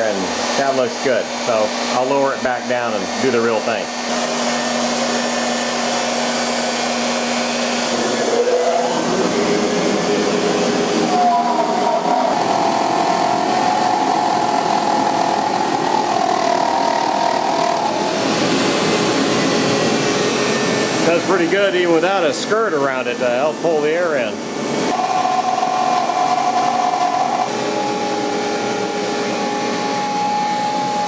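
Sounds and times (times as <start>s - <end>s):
dust collector running: 0.0s - 31.0s
router spindle running: 0.0s - 31.0s
wavering whine of bit cutting wood: 0.0s - 31.0s.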